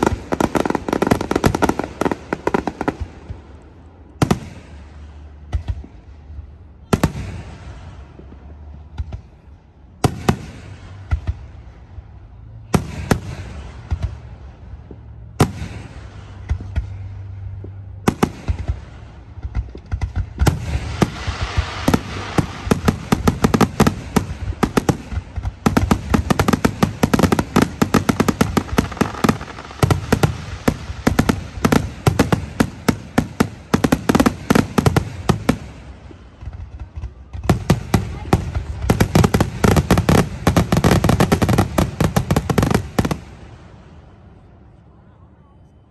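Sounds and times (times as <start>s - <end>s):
fireworks booming: 0.0s - 44.4s.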